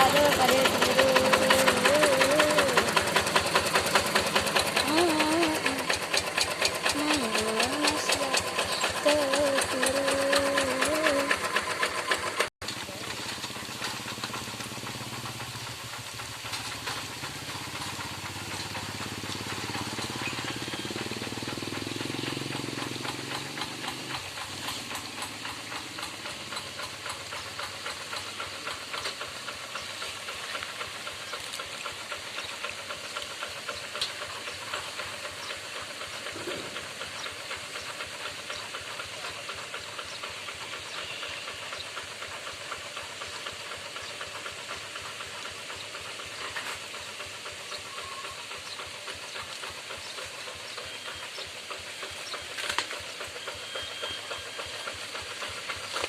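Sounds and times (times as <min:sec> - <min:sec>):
diesel engine chugging: 0:00.0 - 0:56.0
steady hiss: 0:00.0 - 0:56.0.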